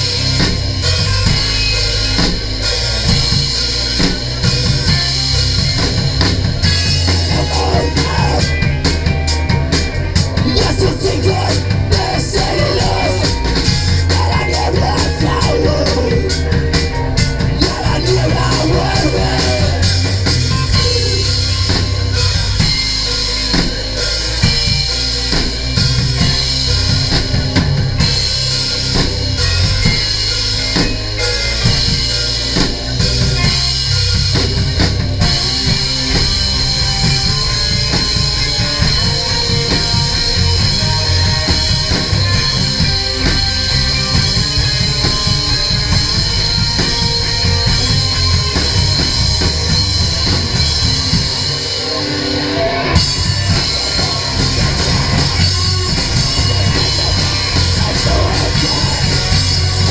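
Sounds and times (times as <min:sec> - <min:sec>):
drum kit pounding: 0:00.0 - 0:59.9
punk band playing live: 0:00.0 - 0:59.9.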